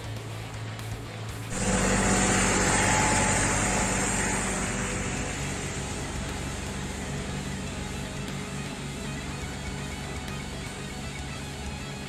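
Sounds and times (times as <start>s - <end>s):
vehicle engine humming: 1.3s - 12.0s
broad rushing noise: 1.5s - 11.3s.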